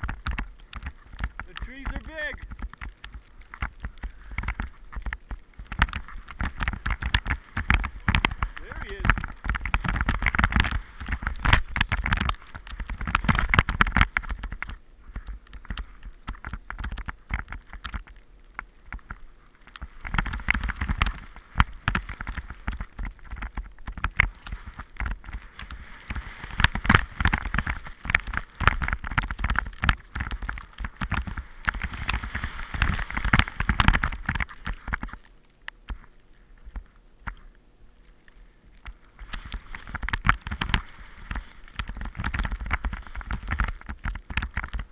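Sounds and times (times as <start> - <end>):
skis swishing through snow: 0.0 - 16.3, 19.2 - 35.3, 38.1 - 44.9.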